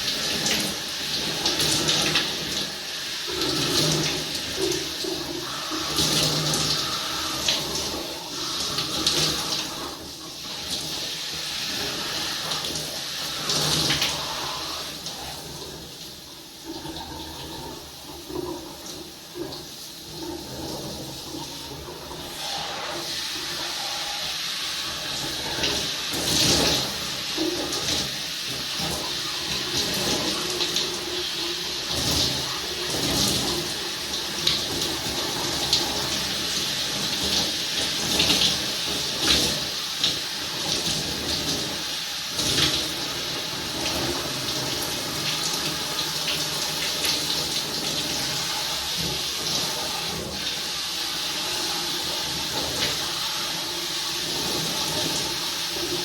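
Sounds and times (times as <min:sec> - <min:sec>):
running water pouring and splashing: 0:00.0 - 0:56.0.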